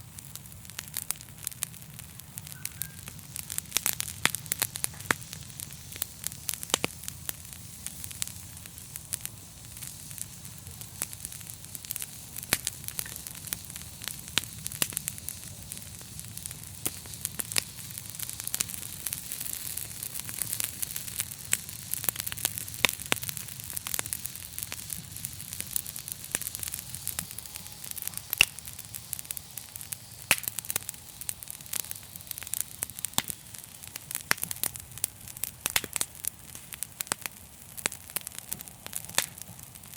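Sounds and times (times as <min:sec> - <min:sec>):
fire hissing: 0:00.0 - 0:39.9
wood fire crackling and popping: 0:00.0 - 0:39.9.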